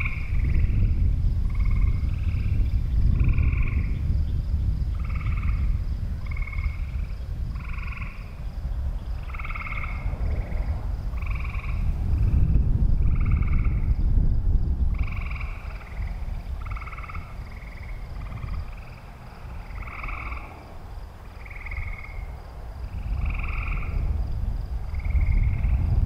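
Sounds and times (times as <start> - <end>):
frogs calling in a chorus: 0.0 - 14.0, 14.9 - 26.0
wind rumble on microphone: 0.0 - 26.0.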